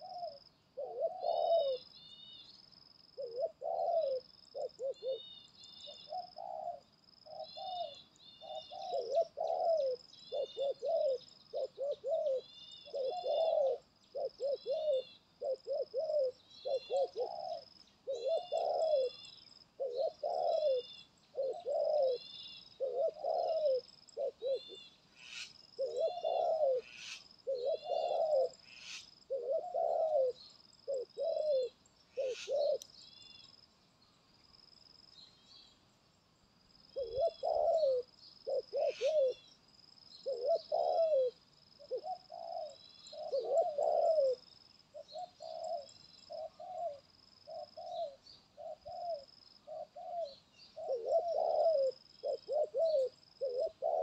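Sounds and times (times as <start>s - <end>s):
dove cooing: 0.0s - 32.9s, 36.8s - 54.0s.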